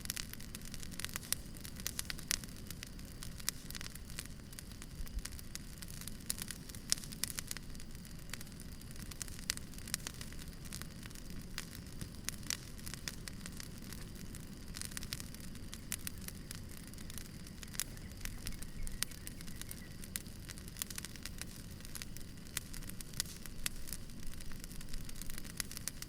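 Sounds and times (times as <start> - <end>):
burning logs crackling and popping: 0.0 - 26.0.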